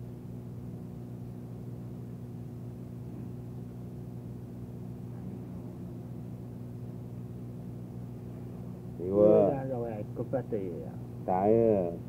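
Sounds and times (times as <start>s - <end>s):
low hum with evenly spaced tones: 0.0s - 12.0s.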